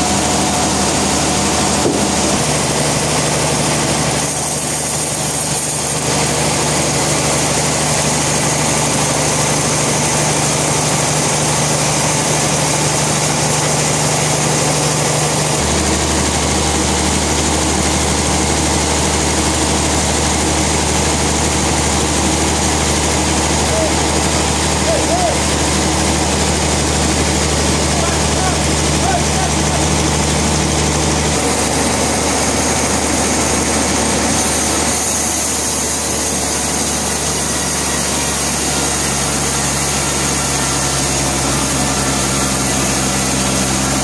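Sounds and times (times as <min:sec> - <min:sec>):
sawmill machinery engine drone: 0:00.0 - 0:44.0.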